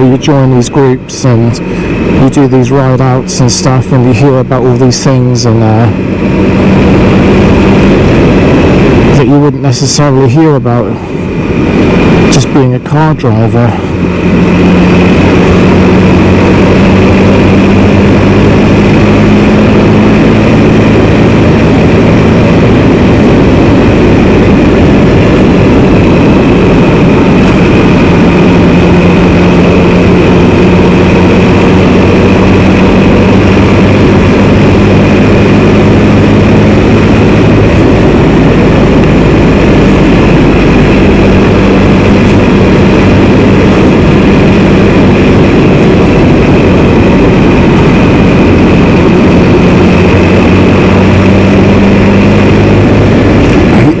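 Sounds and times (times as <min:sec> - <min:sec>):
motorcycle engine: 0:00.0 - 0:09.5, 0:10.9 - 0:54.0
wind and road noise: 0:00.0 - 0:54.0.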